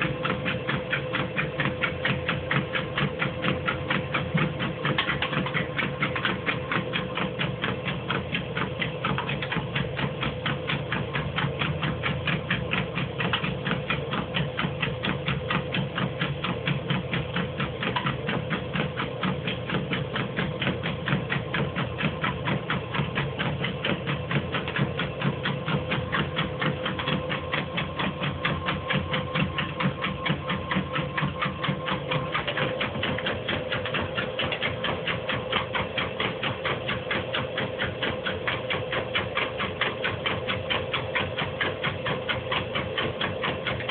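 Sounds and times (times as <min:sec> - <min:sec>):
paws clattering on treadmill belt: 0:00.0 - 0:43.9
treadmill motor hum: 0:00.0 - 0:43.9.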